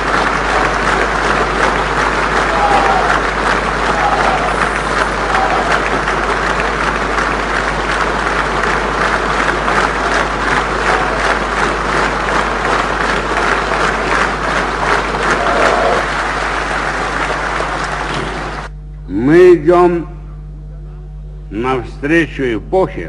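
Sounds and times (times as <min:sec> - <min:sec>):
large audience applauding: 0:00.0 - 0:18.7.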